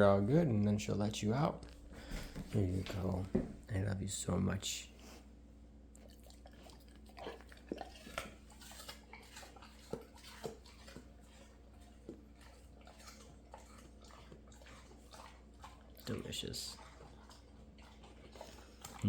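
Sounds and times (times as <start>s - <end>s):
dog chewing and crunching apple: 0.0s - 5.2s, 5.8s - 19.0s.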